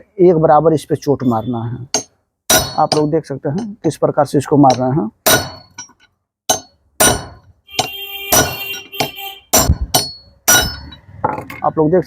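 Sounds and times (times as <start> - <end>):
hammer striking metal pipe: 1.2 - 4.0, 4.6 - 11.7.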